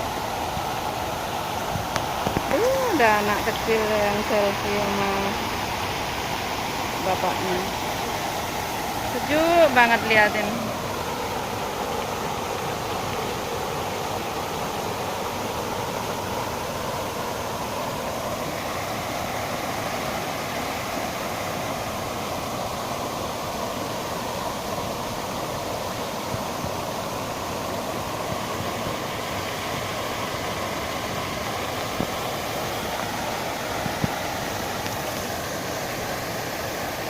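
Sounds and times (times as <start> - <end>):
fountain water splashing: 0.0 - 37.0.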